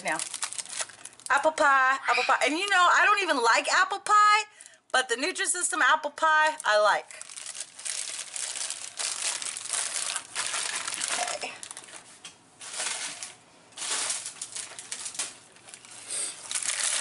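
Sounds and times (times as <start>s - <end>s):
plastic wrappers crinkling: 0.0s - 3.2s, 6.4s - 17.0s.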